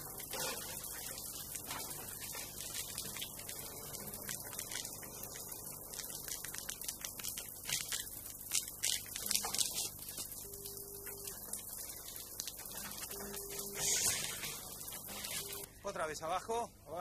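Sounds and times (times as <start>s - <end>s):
shower water running: 0.0s - 15.7s.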